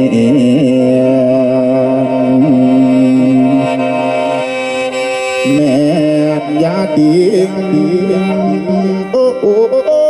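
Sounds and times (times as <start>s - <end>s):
mouth organ chord over drone: 0.0s - 10.0s.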